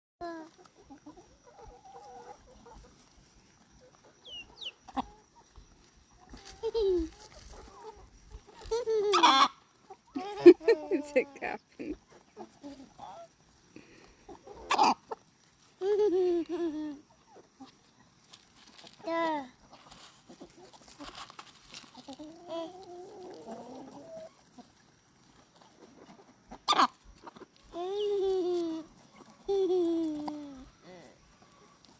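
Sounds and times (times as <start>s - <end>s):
chickens clucking softly: 0.2s - 31.9s.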